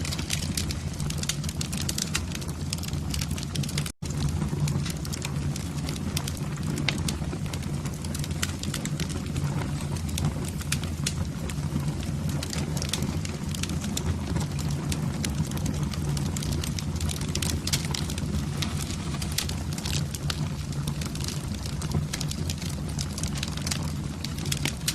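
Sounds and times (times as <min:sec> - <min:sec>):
low fire rumble: 0:00.0 - 0:24.9
wood fire crackling and popping: 0:00.0 - 0:24.9.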